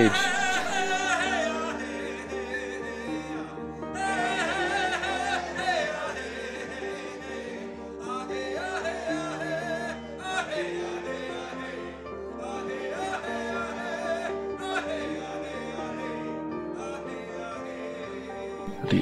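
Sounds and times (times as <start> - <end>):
wordless singing voice: 0.0 - 19.0.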